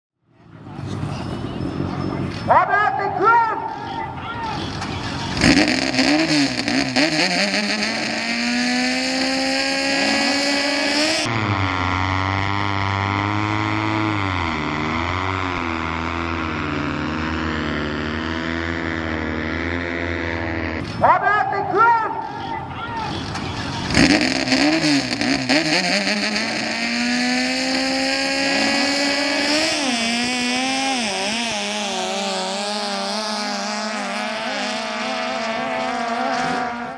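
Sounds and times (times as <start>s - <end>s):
speedboat engine revving: 0.7s - 36.9s.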